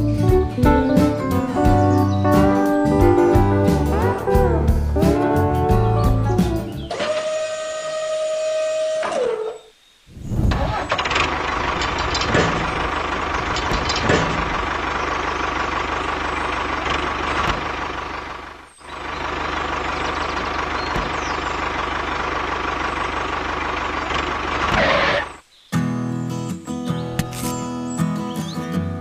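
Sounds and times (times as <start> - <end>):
tractor engine running: 0.0 - 9.4, 10.2 - 25.5.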